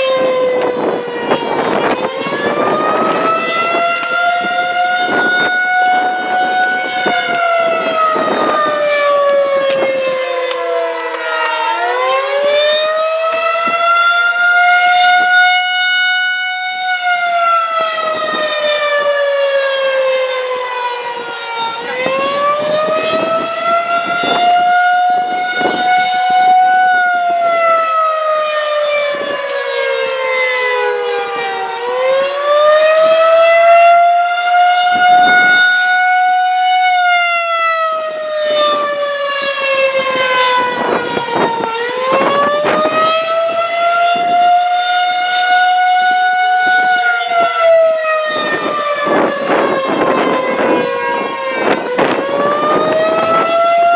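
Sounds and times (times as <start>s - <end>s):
rotating siren wailing: 0.0s - 53.9s.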